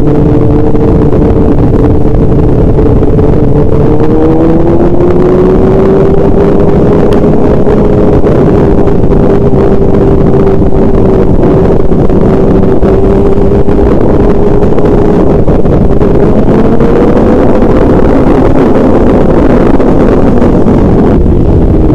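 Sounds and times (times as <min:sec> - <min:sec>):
vehicle engine hum: 0:00.0 - 0:21.9
wind noise: 0:00.0 - 0:21.9.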